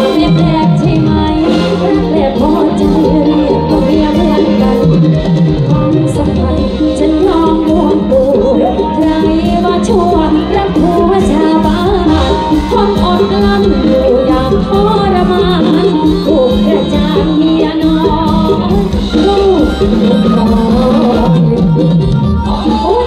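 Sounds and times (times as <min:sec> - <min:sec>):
band playing: 0:00.0 - 0:23.0
woman singing into a microphone: 0:00.0 - 0:23.0.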